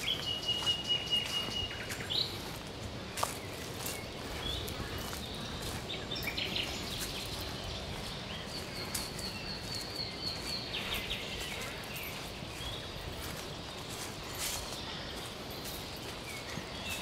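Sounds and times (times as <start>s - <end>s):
footsteps on dry leaves: 0.0s - 17.0s
small birds calling: 0.0s - 17.0s
steady outdoor hiss: 0.0s - 17.0s.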